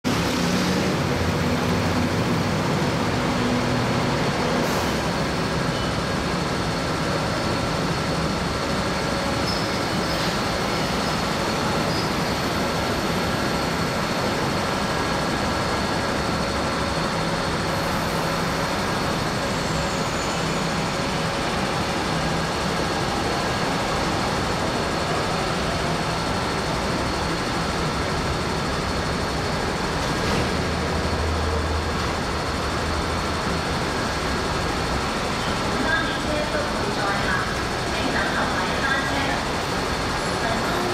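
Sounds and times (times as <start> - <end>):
vehicles rumbling and humming: 0.0 - 40.9.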